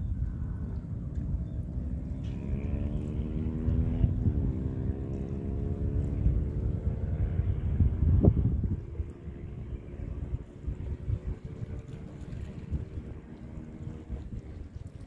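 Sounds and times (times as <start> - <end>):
engine droning hum: 0.0 - 15.0
wind rumbling on microphone: 0.0 - 15.0.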